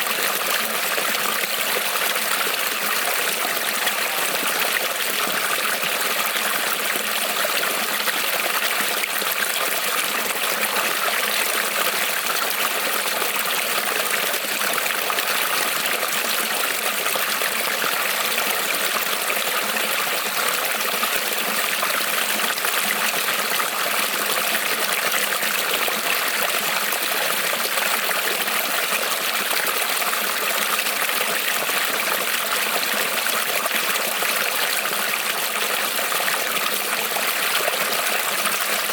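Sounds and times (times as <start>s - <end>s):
creek water trickling over stones: 0.0s - 38.9s.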